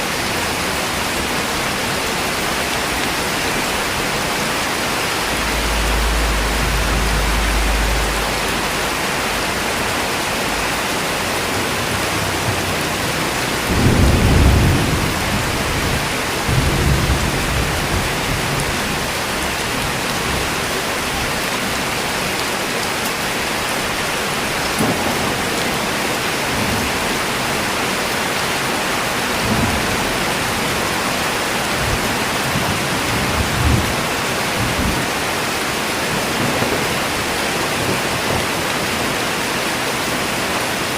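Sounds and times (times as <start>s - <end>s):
steady rain: 0.0s - 40.9s
thunder rumbling: 0.5s - 21.9s, 23.8s - 39.2s.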